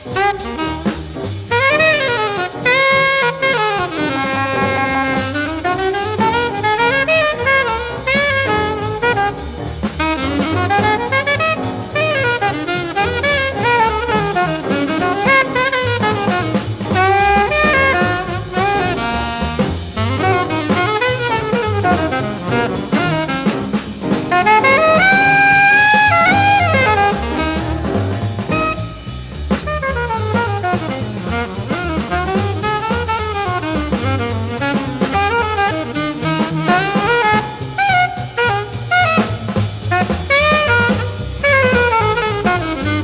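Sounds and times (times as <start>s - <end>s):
drums on brushes and cymbals: 0.0s - 43.0s
horn playing jazz line: 0.0s - 43.0s
piano comping: 0.0s - 43.0s
walking bass: 0.0s - 43.0s.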